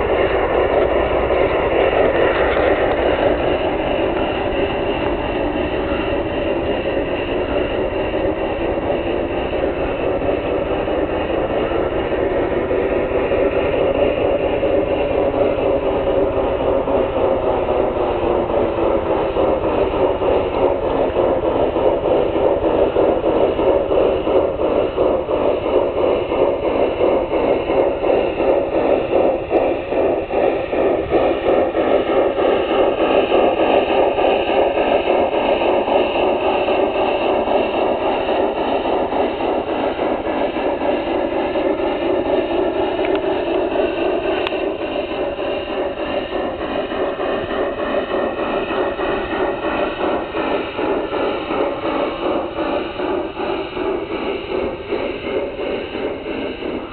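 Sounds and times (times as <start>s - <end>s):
model train running on track: 0.0s - 56.9s.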